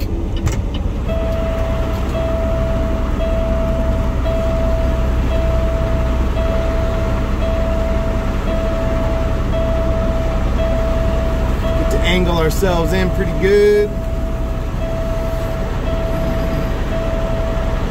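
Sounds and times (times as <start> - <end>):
diesel truck engine running: 0.0 - 17.9
reversing alarm beeping: 1.0 - 17.9.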